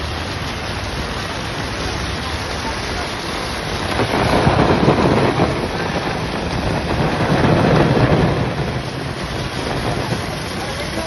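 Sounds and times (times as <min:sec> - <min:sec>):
heavy rain: 0:00.0 - 0:11.0
rushing floodwater: 0:00.0 - 0:11.0.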